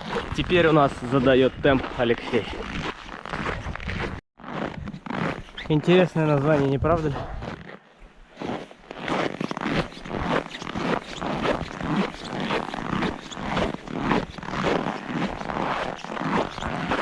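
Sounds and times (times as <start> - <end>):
boots crunching in snow: 0.0 - 17.0.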